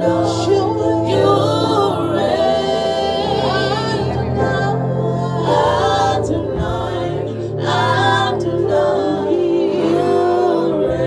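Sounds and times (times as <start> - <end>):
musical accompaniment: 0.0 - 11.0
singers singing a slow praise song: 0.0 - 11.0.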